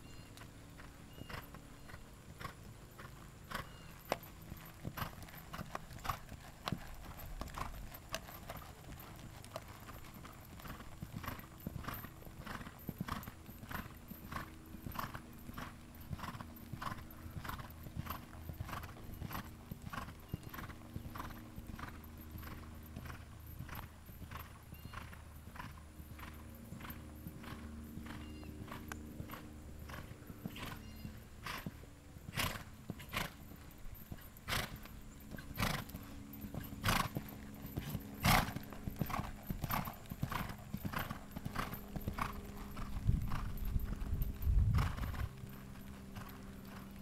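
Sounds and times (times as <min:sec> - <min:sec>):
hooves striking sand: 0:00.4 - 0:47.0.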